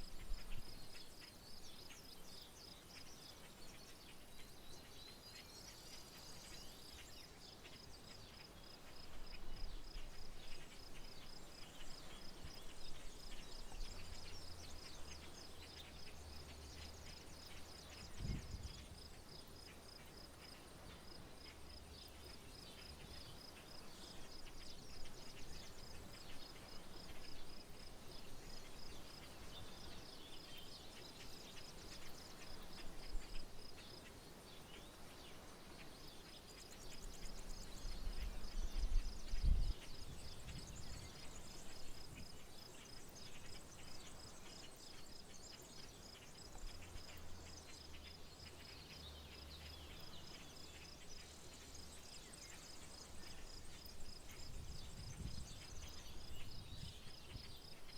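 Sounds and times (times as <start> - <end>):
insect chirping: 0.0 - 57.9.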